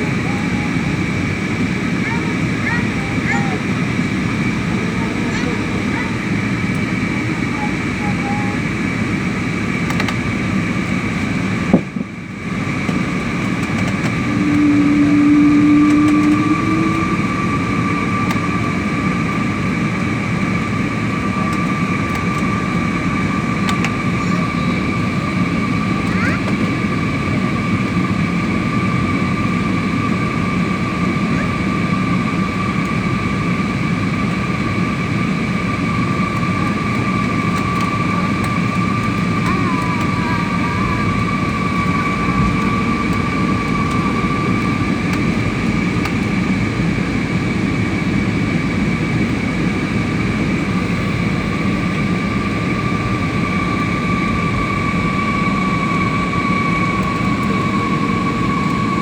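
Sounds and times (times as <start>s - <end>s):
airliner cabin rushing noise: 0.0s - 59.0s
high engine whine: 0.0s - 59.0s.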